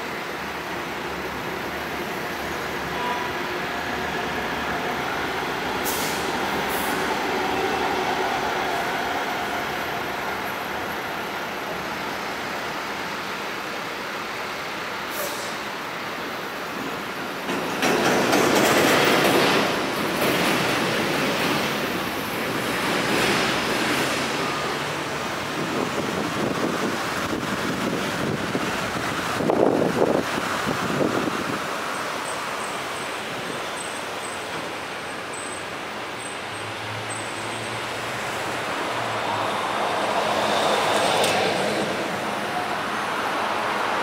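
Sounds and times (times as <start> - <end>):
slow road traffic: 0.0 - 44.0.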